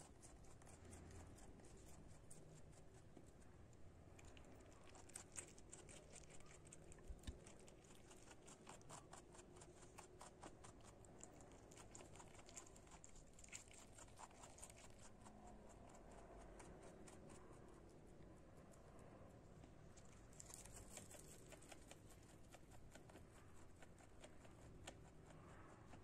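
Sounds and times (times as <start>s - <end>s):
rabbit chewing crunchily: 0.0s - 26.0s.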